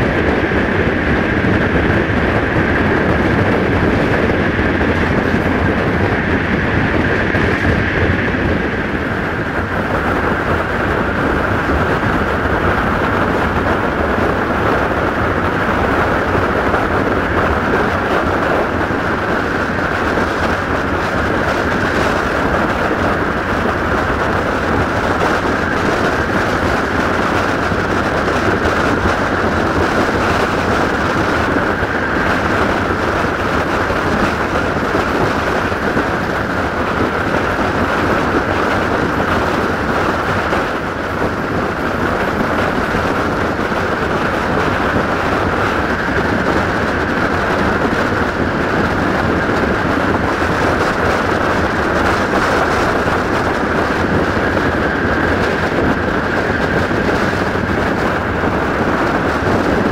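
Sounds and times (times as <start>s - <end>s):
high hum: 0.0s - 59.9s
train wheels rumbling on rails: 0.0s - 59.9s
wind rushing past window: 0.0s - 59.9s.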